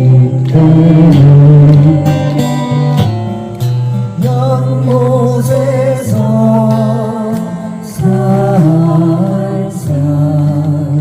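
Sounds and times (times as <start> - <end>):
acoustic guitar: 0.0 - 11.0
person singing slow song: 0.0 - 11.0.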